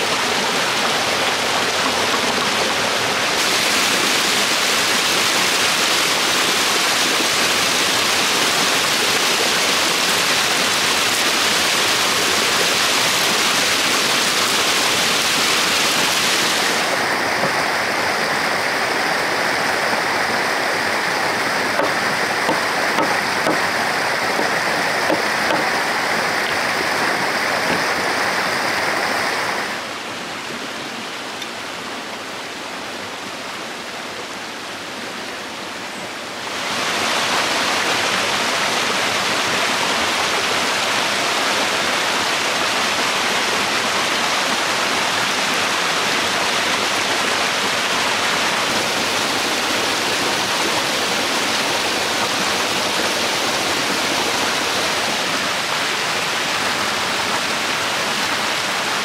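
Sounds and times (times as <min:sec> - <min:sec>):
river rapids rushing over rocks: 0:00.0 - 0:33.4, 0:36.2 - 0:59.0.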